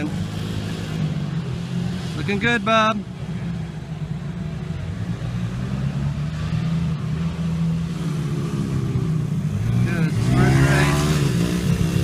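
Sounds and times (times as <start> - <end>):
pit bike engines droning: 0.0 - 12.0.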